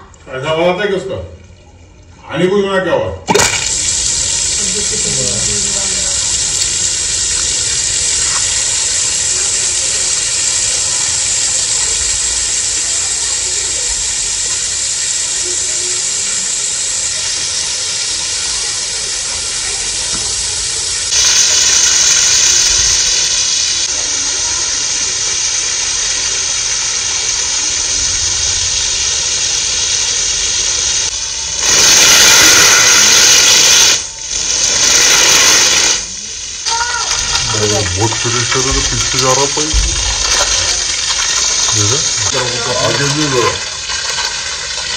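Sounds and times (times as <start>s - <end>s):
water gushing from pipe: 3.3s - 44.9s.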